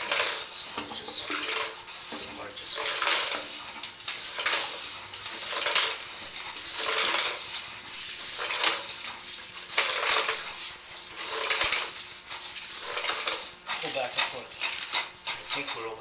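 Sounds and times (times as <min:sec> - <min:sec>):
rod scraping inside drain pipe: 0:00.0 - 0:16.0.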